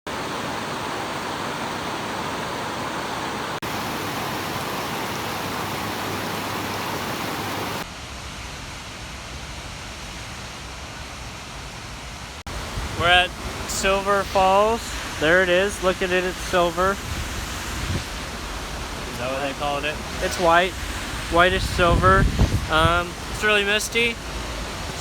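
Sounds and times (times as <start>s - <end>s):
waterfall rushing: 0.1s - 8.4s, 12.5s - 25.0s.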